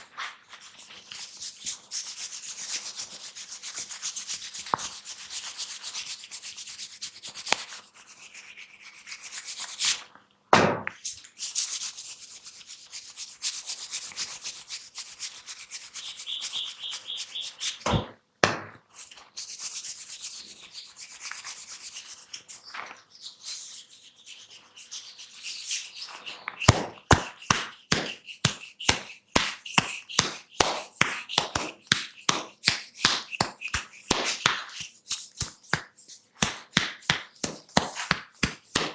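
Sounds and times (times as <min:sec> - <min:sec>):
hands scratching through hair: 0:00.0 - 0:10.0, 0:11.0 - 0:17.8, 0:18.9 - 0:38.9.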